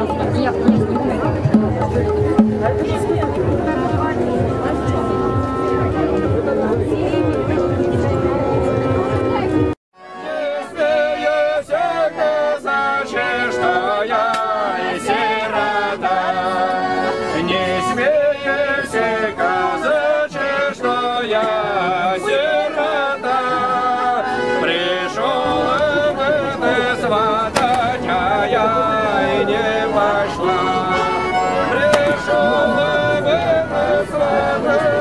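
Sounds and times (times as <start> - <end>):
button accordion chords: 0.1 - 35.0.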